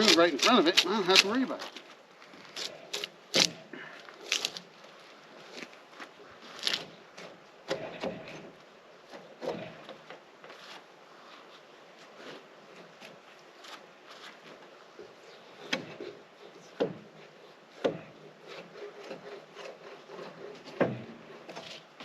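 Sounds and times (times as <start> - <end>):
log knocking and scraping: 0.0 - 22.0.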